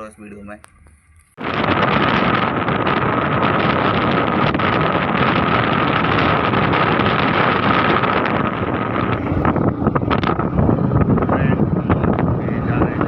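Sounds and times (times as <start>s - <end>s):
steady high whine: 0.0s - 13.0s
wind on microphone: 0.6s - 13.0s.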